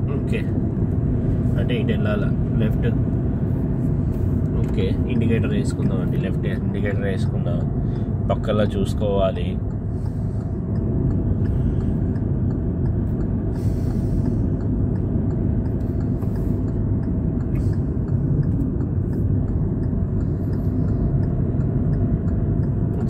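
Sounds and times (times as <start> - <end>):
car cabin road rumble: 0.0 - 23.0
turn indicator ticking: 0.0 - 23.0.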